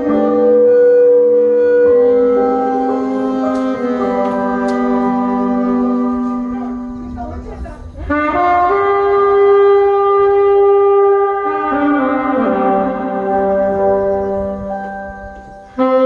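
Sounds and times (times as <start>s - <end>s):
saxophones playing slow melody: 0.0s - 7.2s, 7.8s - 16.0s.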